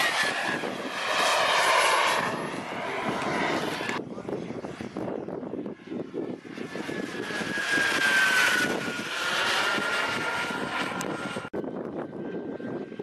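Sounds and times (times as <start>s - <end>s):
model airplane engine whine: 0.0s - 13.0s.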